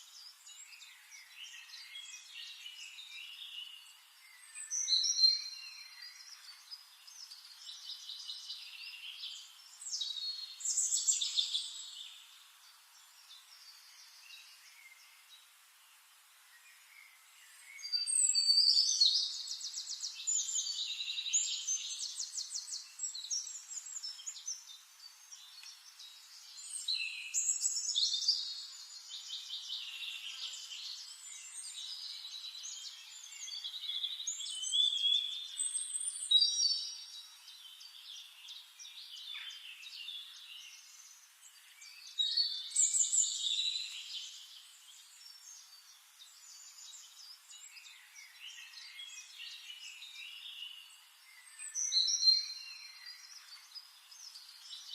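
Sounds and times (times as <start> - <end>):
songbirds twittering: 0.0 - 54.9.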